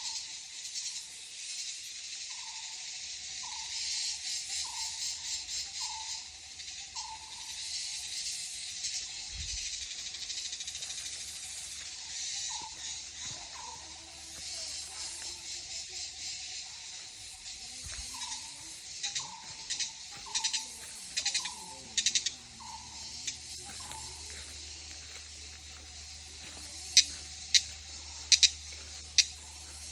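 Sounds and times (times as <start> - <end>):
insects chirring: 0.0 - 29.9
rapid pulsed trills: 2.1 - 29.9.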